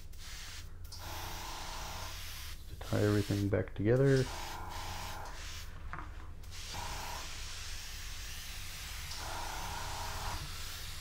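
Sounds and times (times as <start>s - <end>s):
airbrush hissing: 0.0s - 5.8s, 6.4s - 11.0s.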